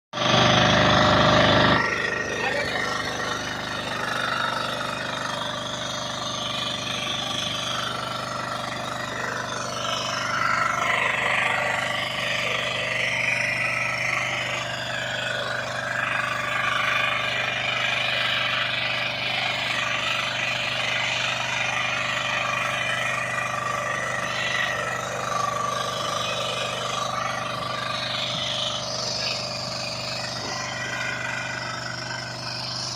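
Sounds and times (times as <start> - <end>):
tractor engine running: 0.1 - 32.9.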